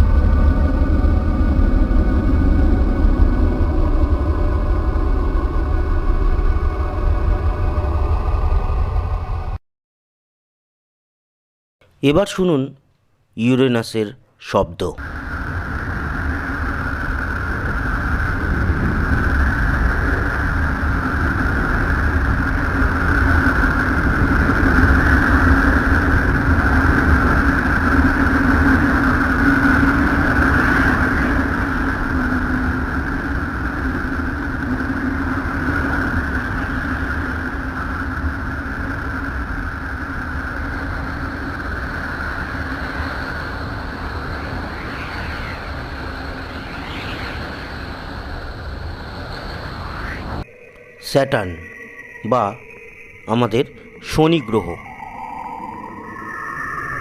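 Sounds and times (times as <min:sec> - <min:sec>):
rumbling drone with humming bands: 0:00.0 - 0:09.6, 0:15.0 - 0:54.0.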